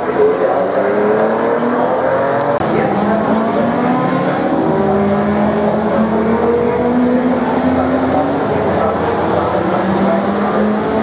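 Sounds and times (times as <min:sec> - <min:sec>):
racing car engines accelerating: 0:00.0 - 0:11.0.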